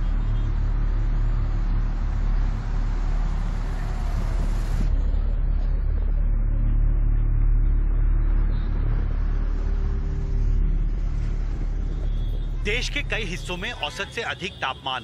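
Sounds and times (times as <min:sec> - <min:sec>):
traffic engines rumbling: 0:00.0 - 0:06.2, 0:08.6 - 0:15.0.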